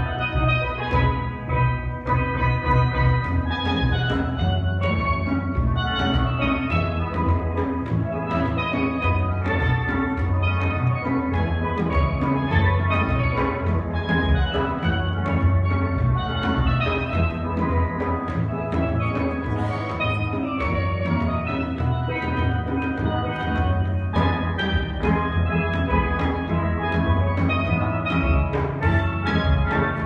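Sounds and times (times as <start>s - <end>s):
drum beat: 0.0s - 30.0s
steelpan notes: 0.0s - 30.0s.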